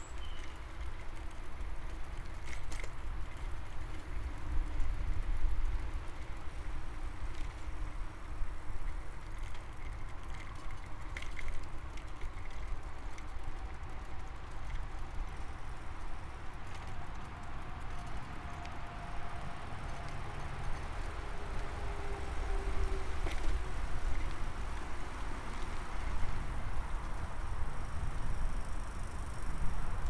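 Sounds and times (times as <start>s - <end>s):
bicycle tyres rolling: 0.0s - 18.4s, 19.1s - 30.0s.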